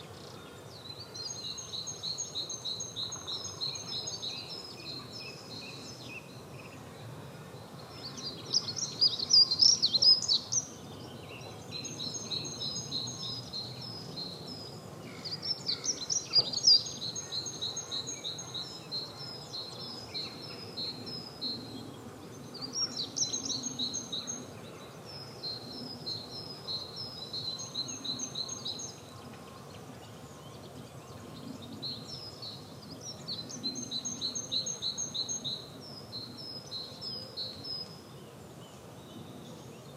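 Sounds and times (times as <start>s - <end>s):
faint background noise: 0.0s - 39.9s
songbirds singing: 0.0s - 39.9s.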